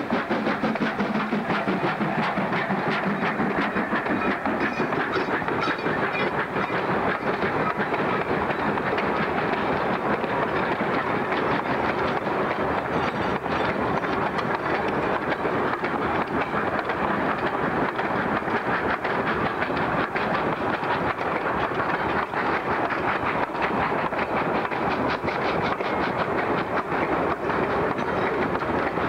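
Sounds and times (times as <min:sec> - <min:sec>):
train wheels clattering over rail joints: 0:00.0 - 0:29.0.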